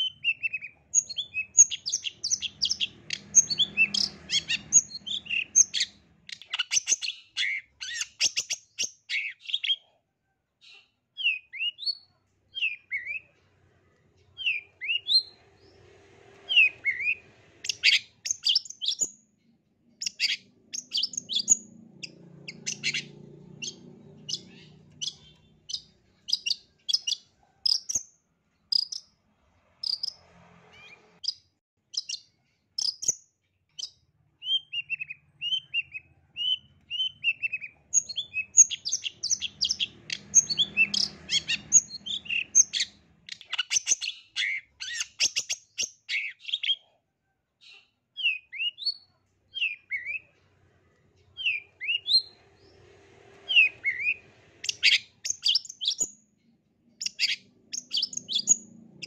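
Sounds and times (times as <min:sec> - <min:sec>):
bird singing: 0:00.0 - 0:09.9, 0:10.6 - 0:13.4, 0:14.0 - 0:15.8, 0:16.5 - 0:29.2, 0:29.8 - 0:30.2, 0:30.8 - 0:46.9, 0:47.6 - 0:50.4, 0:51.2 - 0:52.8, 0:53.5 - 0:59.0.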